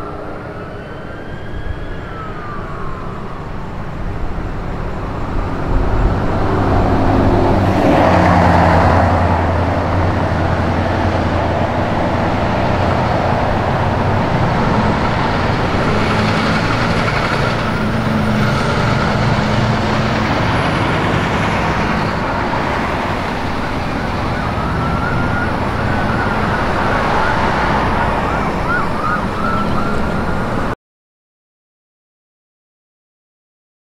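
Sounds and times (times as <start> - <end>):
diesel engine rumble: 0.0 - 30.8
emergency siren: 0.0 - 30.8.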